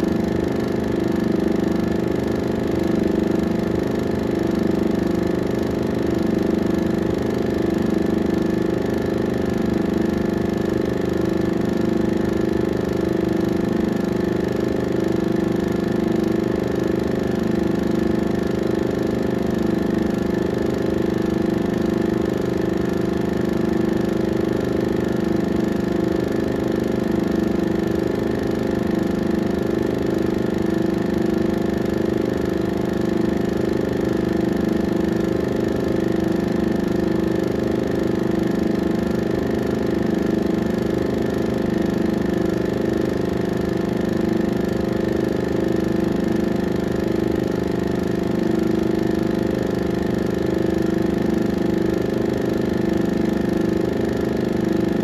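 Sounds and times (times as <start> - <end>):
film projector running: 0.0 - 55.0.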